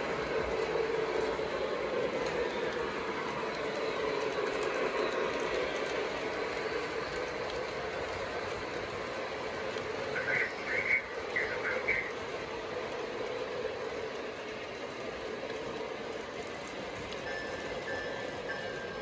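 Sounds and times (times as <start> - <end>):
model trains rolling hum: 0.0 - 19.0.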